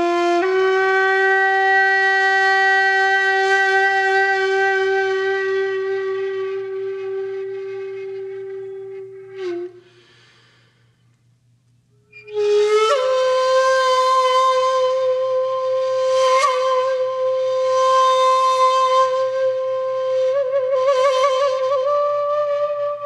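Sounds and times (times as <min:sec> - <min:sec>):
breathy flute-like wind instrument: 0:00.0 - 0:11.0, 0:12.1 - 0:23.0.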